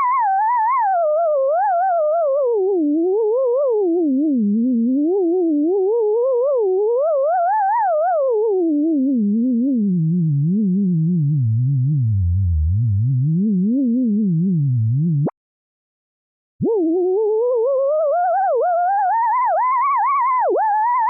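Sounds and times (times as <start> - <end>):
synthesized theremin-like tone: 0.0 - 15.3, 16.6 - 21.0.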